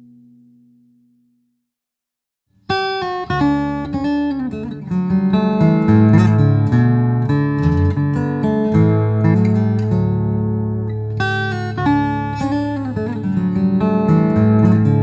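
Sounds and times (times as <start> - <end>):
acoustic guitar playing: 2.6 - 15.0.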